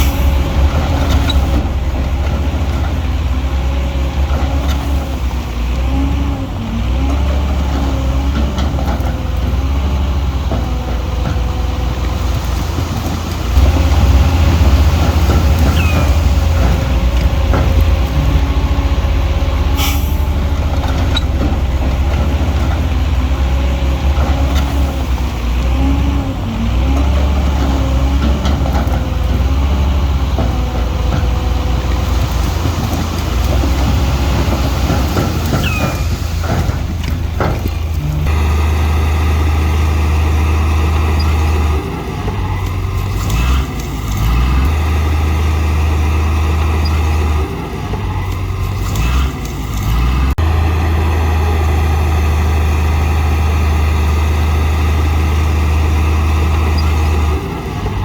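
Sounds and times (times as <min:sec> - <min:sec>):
bulldozer engine rumbling: 0:00.0 - 0:58.0.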